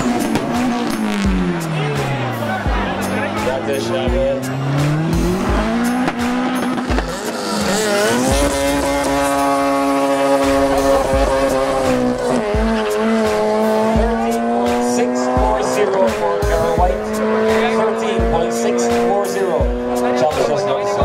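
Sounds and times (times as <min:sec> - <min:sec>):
race car engines at full throttle: 0:00.0 - 0:21.0.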